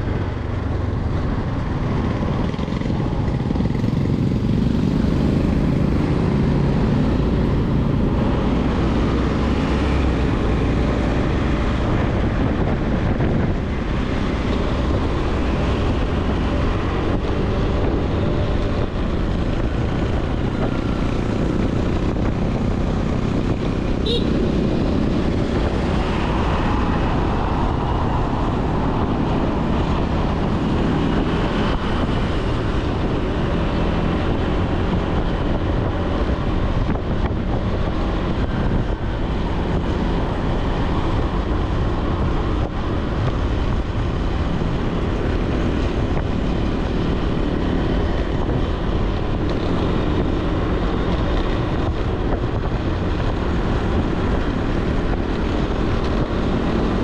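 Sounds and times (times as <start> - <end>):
road noise: 0.0 - 57.0
wind noise on microphone: 0.0 - 57.0.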